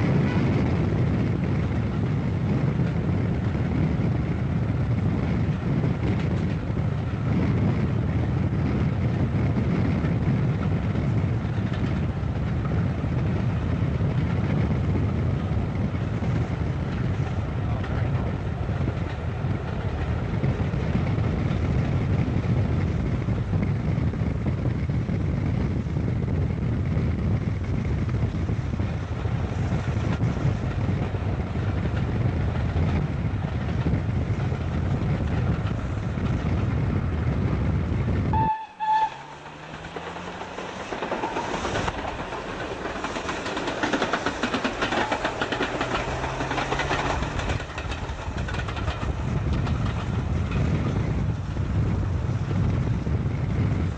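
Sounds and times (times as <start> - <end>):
steam train rumbling: 0.0 - 53.9.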